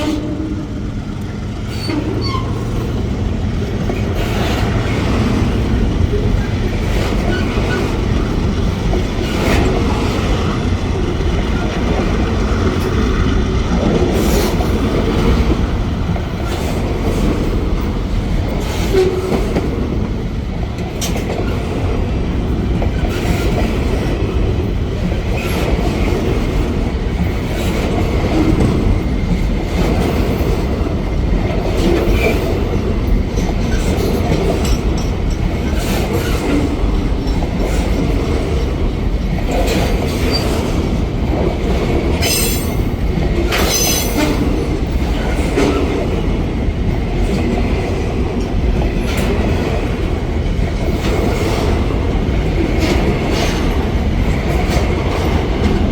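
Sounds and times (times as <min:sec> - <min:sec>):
rumble of train wheels: 0:00.0 - 0:55.9.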